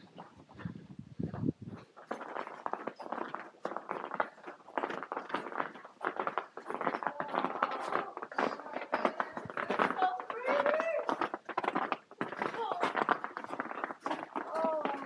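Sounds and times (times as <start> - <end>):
footsteps crunching on ice: 0.0 - 15.0.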